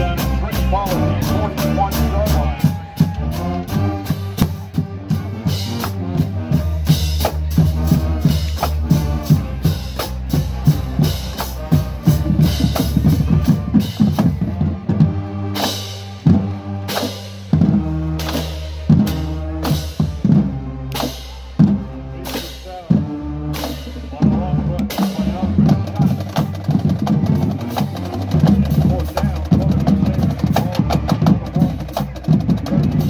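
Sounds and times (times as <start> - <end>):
bass drum and snare beats: 0.0 - 33.0
low brass bass line: 0.0 - 33.0.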